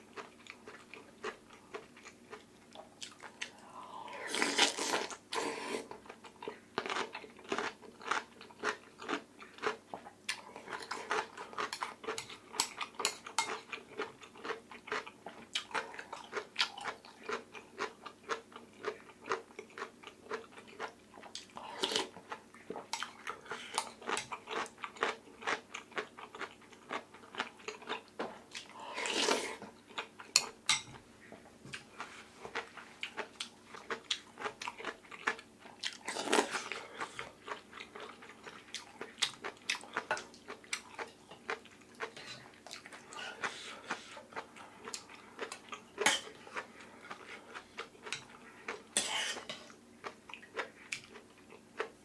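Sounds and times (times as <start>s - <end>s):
person chewing: 0.1s - 52.0s.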